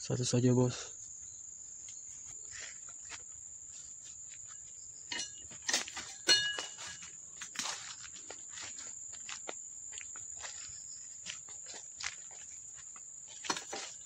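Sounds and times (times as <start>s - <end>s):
insects buzzing: 0.0s - 14.0s
footsteps crunching in leaves: 1.8s - 4.9s, 5.5s - 14.0s.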